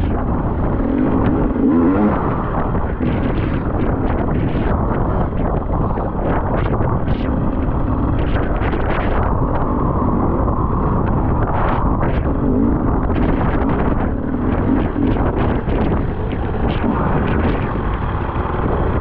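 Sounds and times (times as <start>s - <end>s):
motorcycle engine revving: 0.0s - 19.0s
wind buffeting on microphone: 0.0s - 19.0s.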